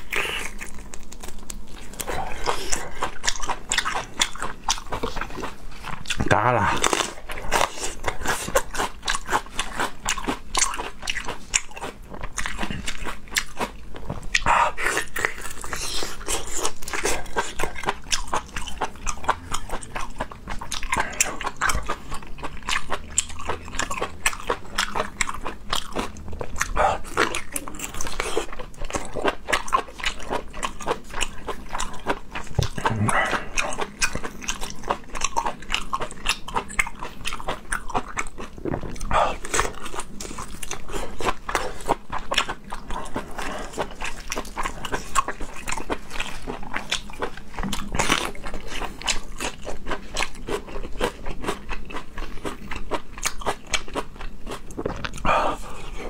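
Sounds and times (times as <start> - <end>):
chewing sausages: 0.0 - 56.0.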